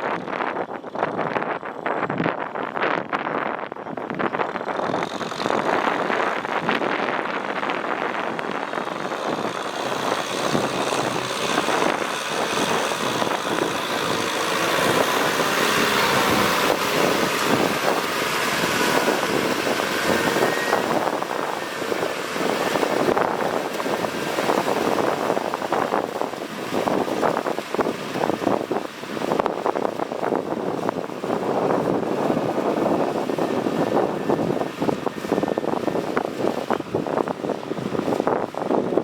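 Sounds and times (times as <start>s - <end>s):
tractor diesel engine under load: 0.0s - 39.0s.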